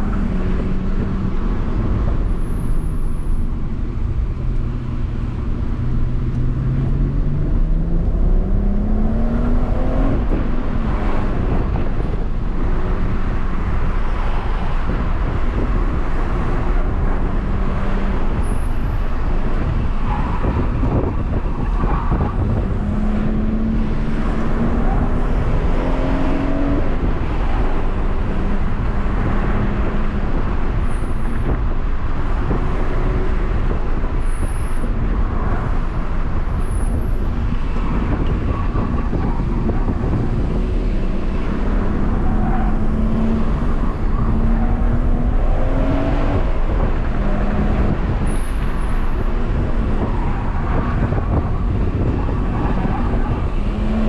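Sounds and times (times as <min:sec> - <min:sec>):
car engine under load: 0:00.0 - 0:54.0
tyre and road noise: 0:00.0 - 0:54.0.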